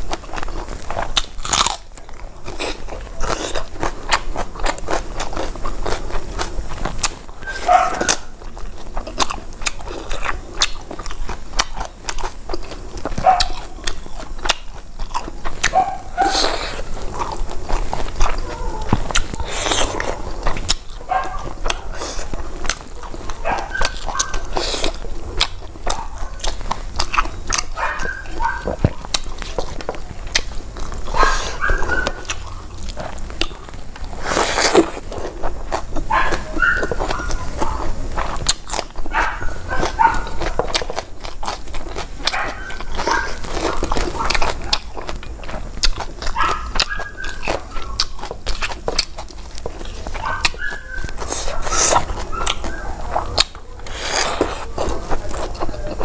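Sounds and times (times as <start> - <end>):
close chewing: 0.0 - 56.0
lip smacks: 9.0 - 56.0.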